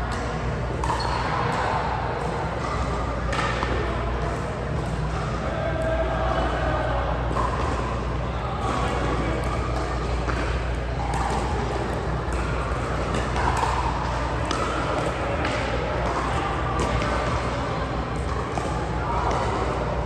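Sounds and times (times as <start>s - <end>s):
background chatter: 0.0s - 20.0s.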